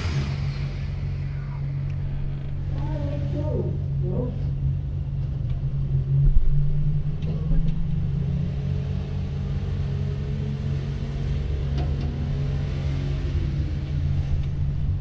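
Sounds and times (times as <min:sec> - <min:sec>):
diesel tractor engine droning: 0:00.0 - 0:15.0.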